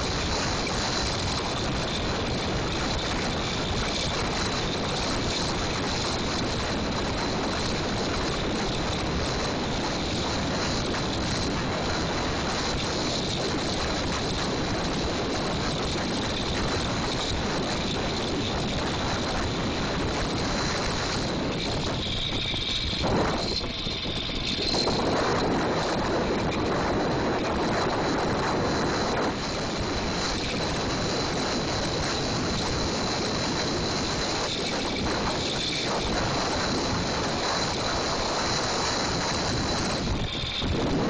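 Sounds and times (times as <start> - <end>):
small gas engine running: 0.0 - 41.0
wind rush on microphone: 0.0 - 41.0.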